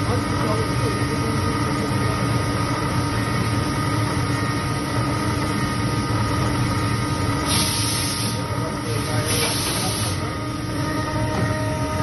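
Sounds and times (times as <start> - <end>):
spindle motor humming: 0.0 - 12.0.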